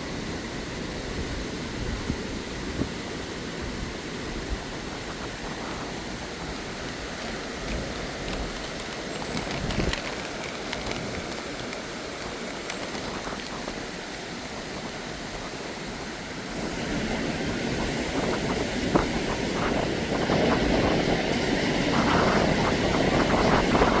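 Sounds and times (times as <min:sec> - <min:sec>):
stream water flowing: 0:00.0 - 0:20.3
wind buffeting microphone: 0:00.1 - 0:24.0.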